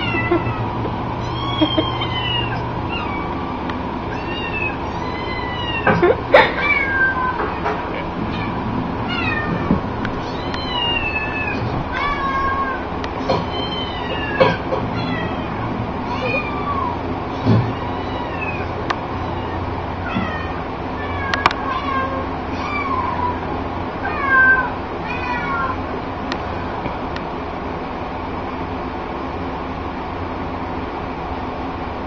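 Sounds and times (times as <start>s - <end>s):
cat meowing: 0.0s - 25.8s.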